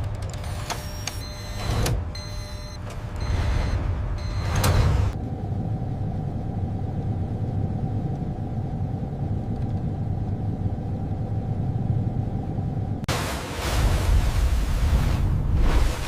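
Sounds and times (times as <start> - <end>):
heavy machinery rumble and hum: 0.0 - 16.0.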